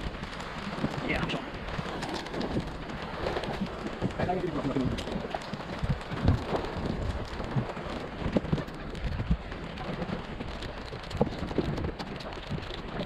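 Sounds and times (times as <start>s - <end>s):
waves slapping boat hull: 0.0s - 13.0s.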